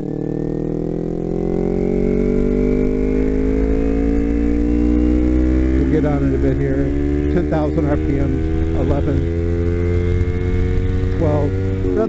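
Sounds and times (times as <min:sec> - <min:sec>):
motorcycle engine revving up: 0:00.0 - 0:12.0.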